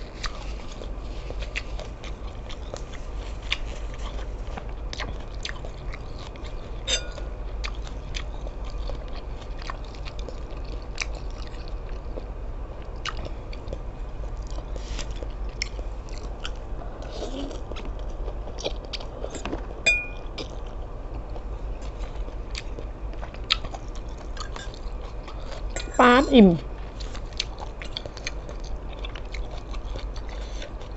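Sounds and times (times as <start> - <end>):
chewing and mouth smacking: 0.0 - 26.0, 26.8 - 30.9.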